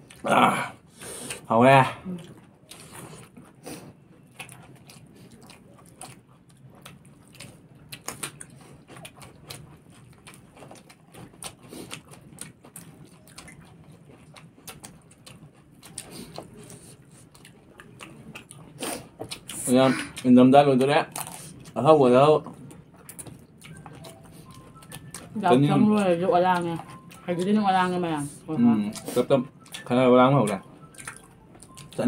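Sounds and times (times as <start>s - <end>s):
people chewing food: 0.0s - 32.0s.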